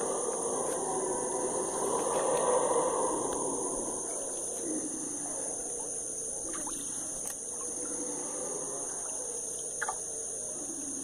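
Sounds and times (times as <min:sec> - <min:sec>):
forest insects droning: 0:00.0 - 0:11.0
howler monkeys howling: 0:00.0 - 0:11.0.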